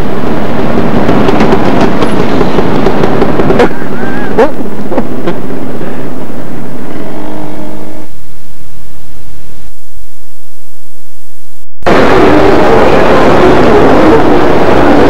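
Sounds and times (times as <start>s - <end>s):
steady hum: 0.0s - 15.0s
videotape static hiss: 0.0s - 15.0s.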